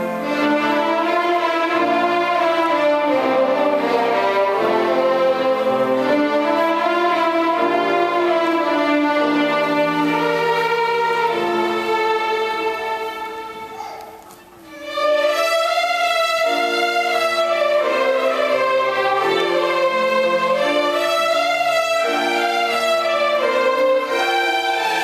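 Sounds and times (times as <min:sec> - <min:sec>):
violin ensemble playing: 0:00.0 - 0:25.0.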